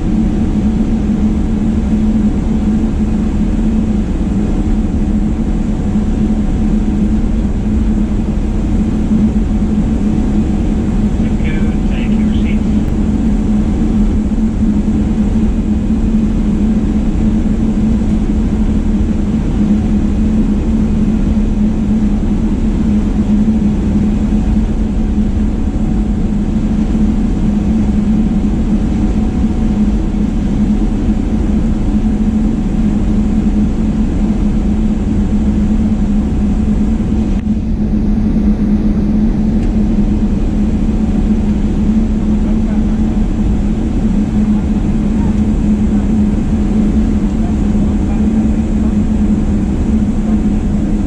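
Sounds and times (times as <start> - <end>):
airliner cabin engine drone: 0.0 - 51.0.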